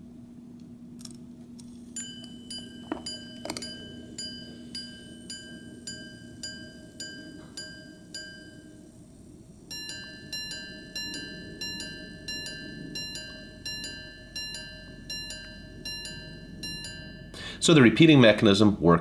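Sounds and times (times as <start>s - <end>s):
watch gong ringing strikes: 2.0s - 18.6s.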